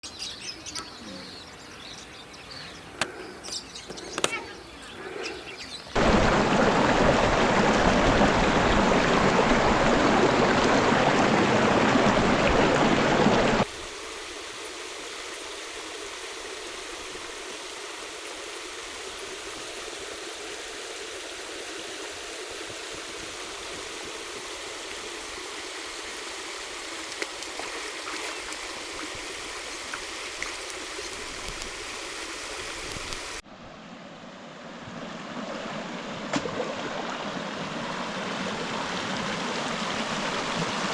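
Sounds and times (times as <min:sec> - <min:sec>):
river water rushing: 0:06.0 - 0:33.4, 0:34.8 - 0:40.9
stream flowing: 0:06.0 - 0:40.9.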